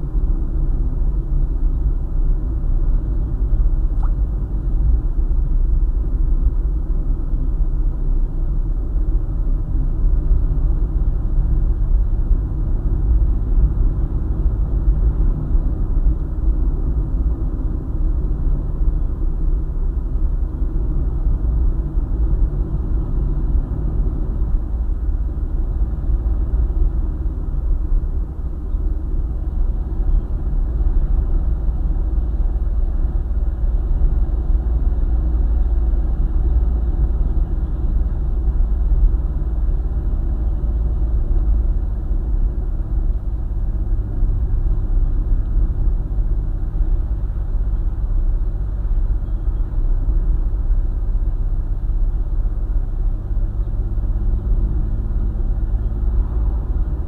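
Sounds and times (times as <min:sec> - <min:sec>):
car driving on highway: 0:00.0 - 0:57.0.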